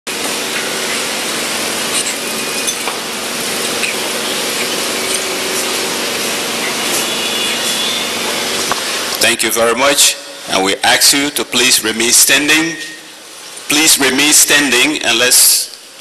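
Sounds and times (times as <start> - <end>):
steady hiss: 0.1 - 16.0.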